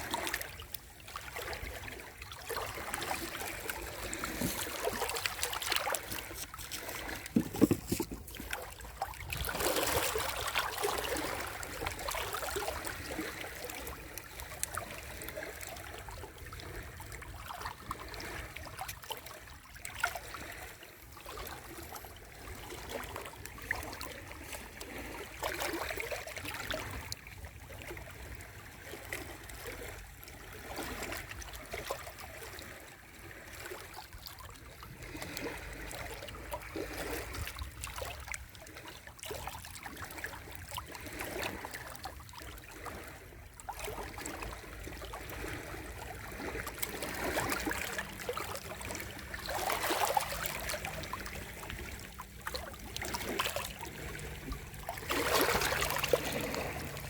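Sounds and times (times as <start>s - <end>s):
sea waves lapping at shore: 0.0s - 57.0s.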